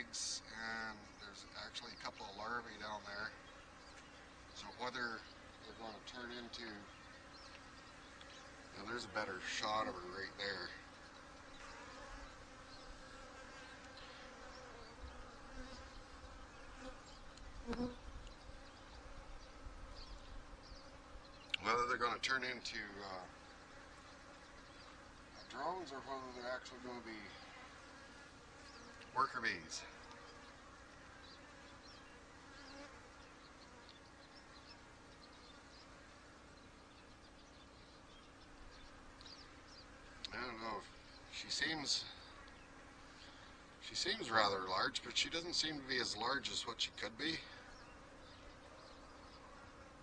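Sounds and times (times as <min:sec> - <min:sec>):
honey bees buzzing: 0:00.0 - 0:50.0.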